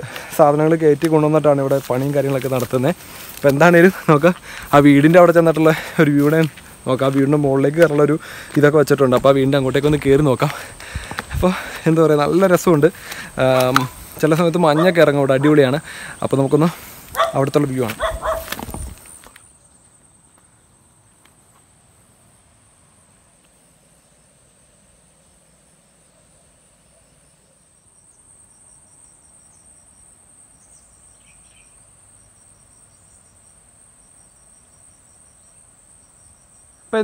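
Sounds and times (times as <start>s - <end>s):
insects buzzing: 0.0s - 37.0s
insects chirping in pulses: 0.0s - 37.0s.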